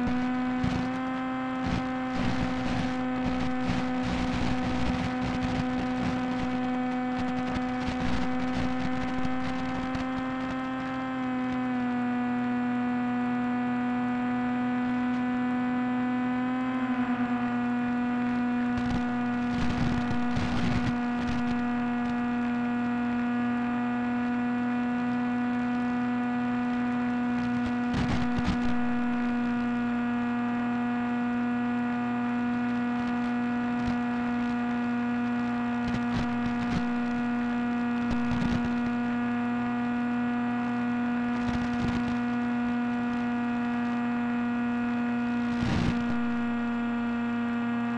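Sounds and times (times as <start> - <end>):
electric motor and propeller whine: 0.0 - 47.9.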